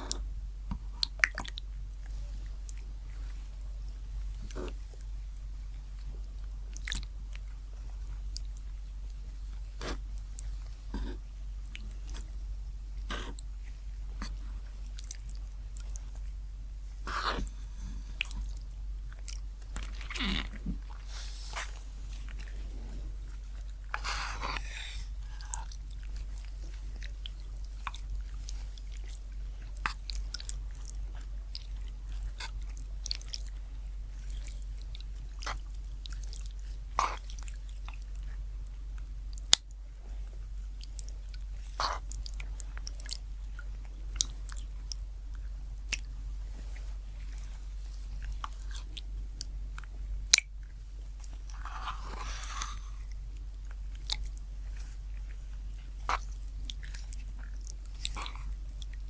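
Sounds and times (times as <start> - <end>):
steady low hum: 0.0 - 59.0
chewing and biting: 0.8 - 12.4, 13.0 - 59.0.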